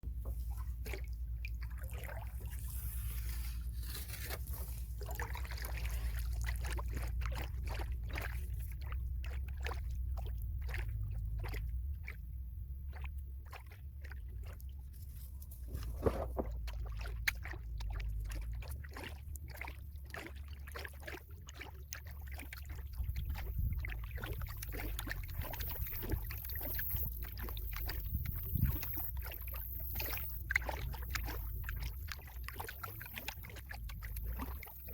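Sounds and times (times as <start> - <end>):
paddle splashing water: 0.0 - 34.9.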